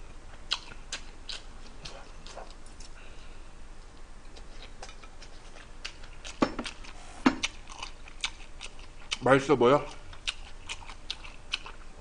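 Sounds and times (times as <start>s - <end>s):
person chewing: 0.0s - 3.2s, 3.9s - 12.0s.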